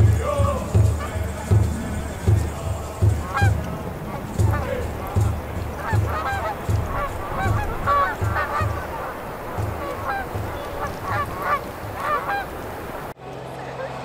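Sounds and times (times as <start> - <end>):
music with low thumping beat: 0.0 - 12.4
short honking calls: 0.0 - 13.1.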